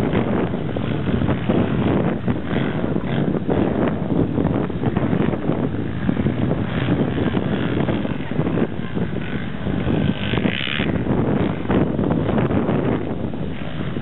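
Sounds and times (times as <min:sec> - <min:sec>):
quad bike engine running: 0:00.0 - 0:14.0
wind buffeting microphone: 0:00.0 - 0:14.0.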